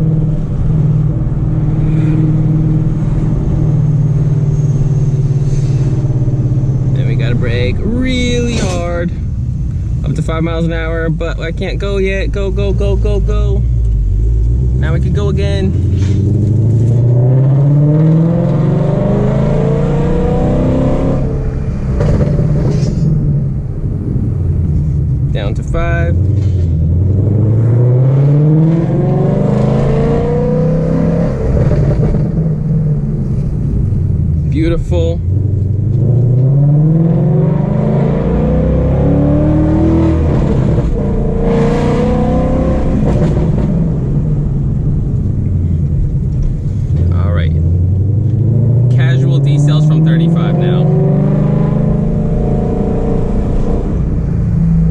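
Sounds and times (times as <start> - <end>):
car engine accelerating hard: 0.0 - 54.9.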